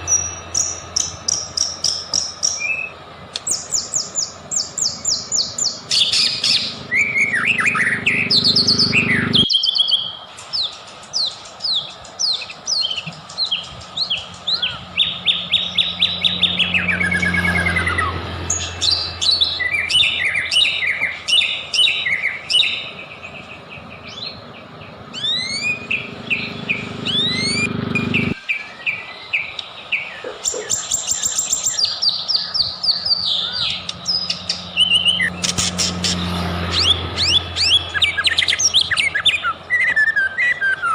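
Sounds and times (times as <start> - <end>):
bird song with chirps and whistles: 0.0 - 40.9.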